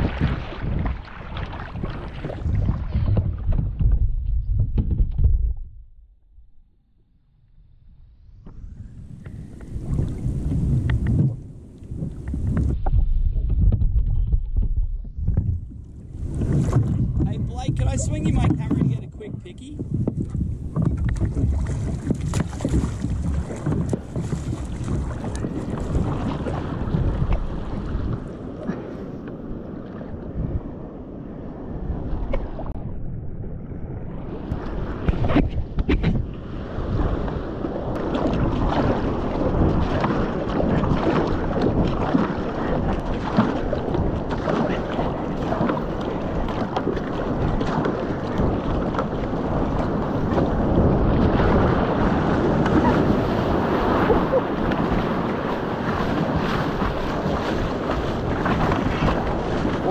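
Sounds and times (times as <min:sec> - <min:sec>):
breaking surf around hull: 0:00.0 - 0:05.2, 0:08.3 - 0:59.9
wind buffeting microphone: 0:00.0 - 0:06.0, 0:08.2 - 0:59.9
water splashing against kayak: 0:00.0 - 0:06.4, 0:08.4 - 0:33.1, 0:33.8 - 0:59.9.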